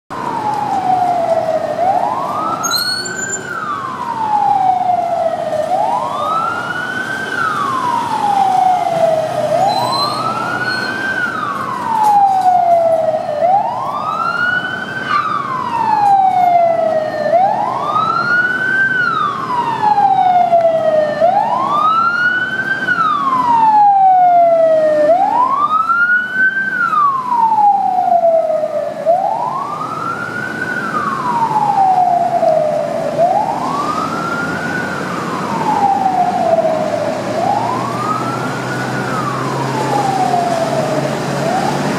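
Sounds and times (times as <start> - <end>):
fire engine siren wailing: 0.1 - 41.9
low traffic noise: 0.1 - 41.9.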